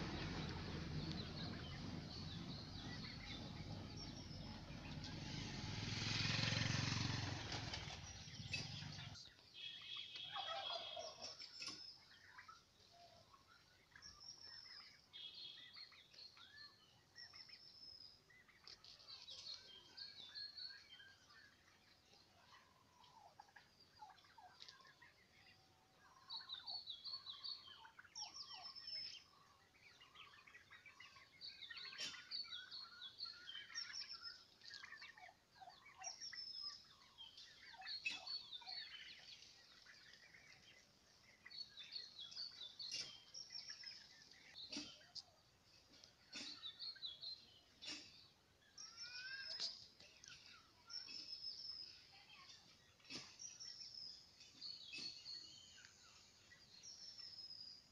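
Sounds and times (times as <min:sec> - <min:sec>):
turkeys calling: 0:00.0 - 0:05.6, 0:06.7 - 0:57.9.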